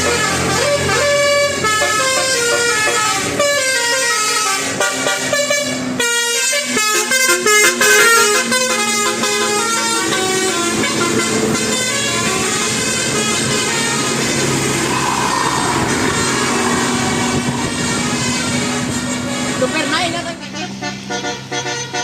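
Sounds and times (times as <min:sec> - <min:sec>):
multi-tone bus horn melody: 0:00.0 - 0:22.0.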